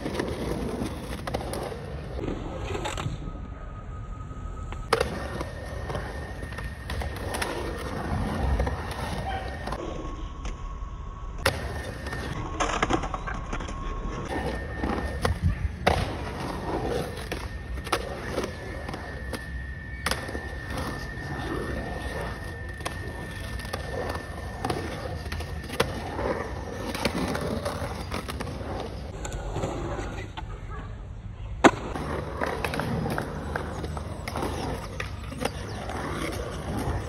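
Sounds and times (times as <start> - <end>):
skateboard wheels rolling on concrete: 0.0 - 37.0.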